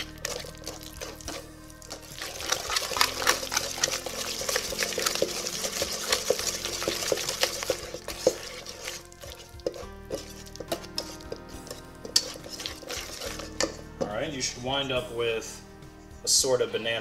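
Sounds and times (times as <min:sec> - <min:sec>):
wire whisk scraping metal bowl: 0:00.0 - 0:14.6.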